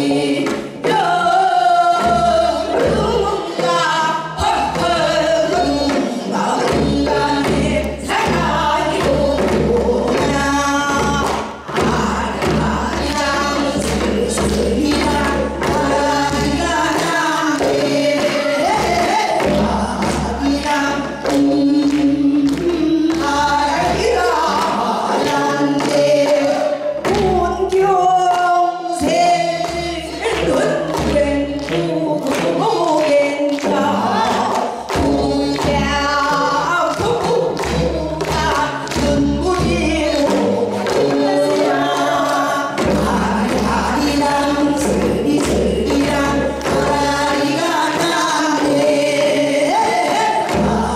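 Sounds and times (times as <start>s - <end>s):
women singing folk song: 0.0s - 50.9s.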